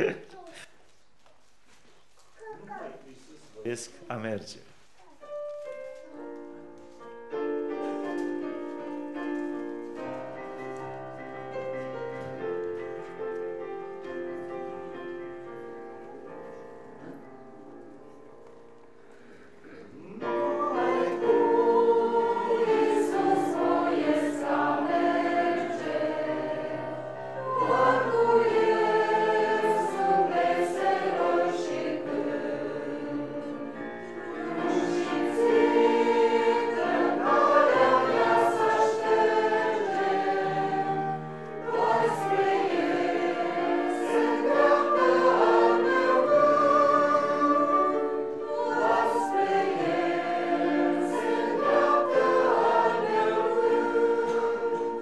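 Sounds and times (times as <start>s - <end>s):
congregation singing a hymn: 7.0s - 18.2s, 19.1s - 55.0s.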